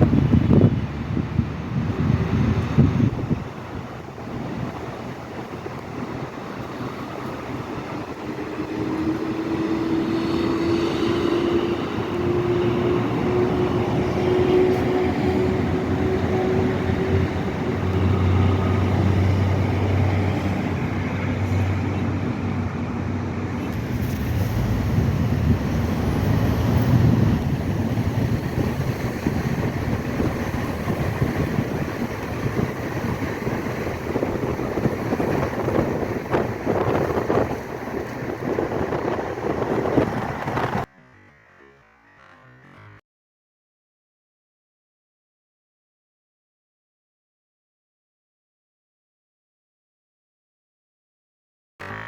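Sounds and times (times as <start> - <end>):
road noise: 0.0 - 43.0, 51.8 - 52.0.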